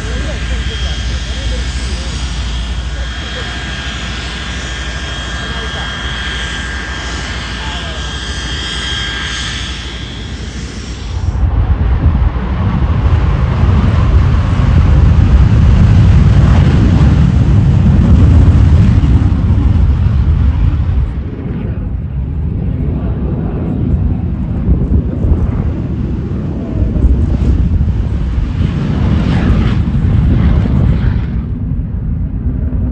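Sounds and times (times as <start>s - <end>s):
aircraft engine whine: 0.0s - 32.9s
loud low engine rumble: 0.0s - 32.9s.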